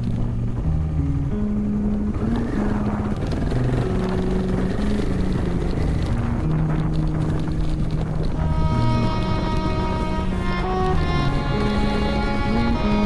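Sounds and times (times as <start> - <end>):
motorcycle engine: 0.0 - 13.0
music with low held notes: 0.0 - 13.0.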